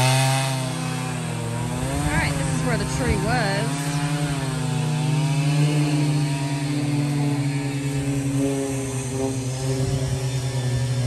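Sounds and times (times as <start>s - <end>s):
distant chainsaw engine running: 0.0s - 11.0s.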